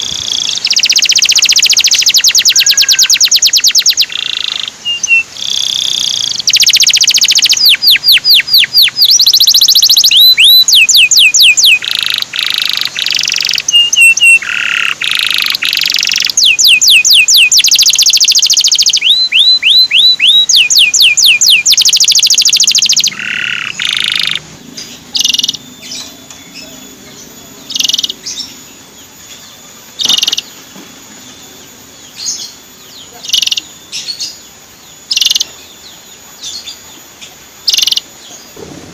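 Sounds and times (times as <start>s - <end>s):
canary singing trills and chirps: 0.0s - 38.6s.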